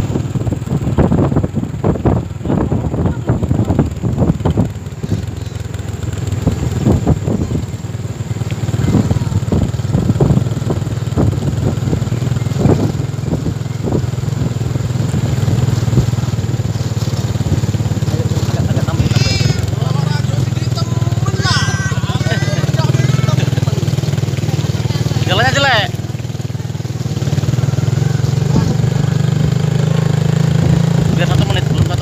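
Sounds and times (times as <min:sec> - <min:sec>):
motorcycle engines running: 0:00.0 - 0:32.0.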